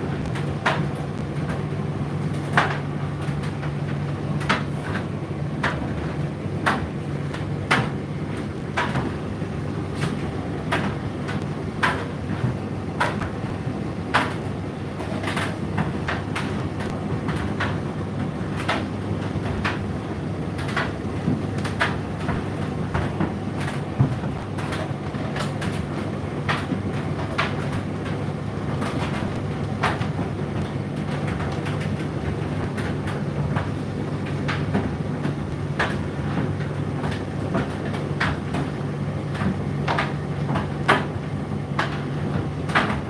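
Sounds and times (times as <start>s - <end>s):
tumble dryer motor hum: 0.0s - 43.0s
load knocking in dryer drum: 2.4s - 43.0s.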